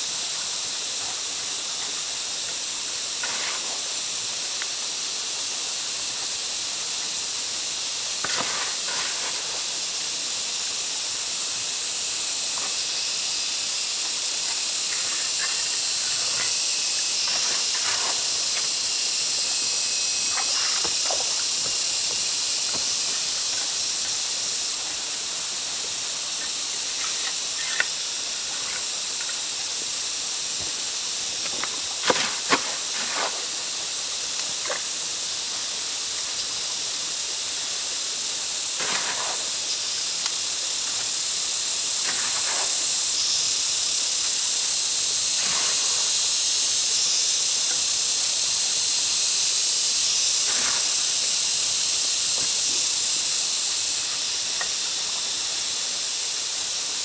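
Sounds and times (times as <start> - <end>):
high-pitched hissing: 0.0 - 57.0.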